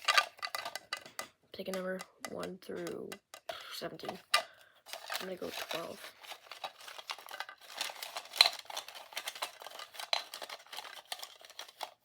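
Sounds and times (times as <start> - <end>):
wooden sticks clattering together: 0.0 - 12.0.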